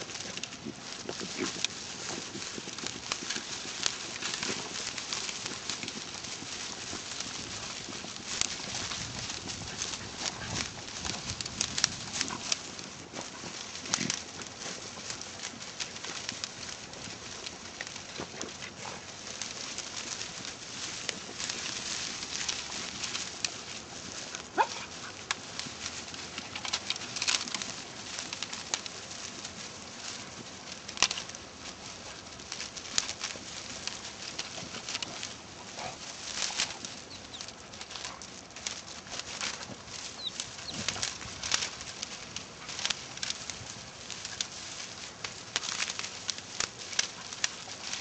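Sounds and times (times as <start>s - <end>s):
brush crackling and twigs snapping: 0.0s - 48.0s.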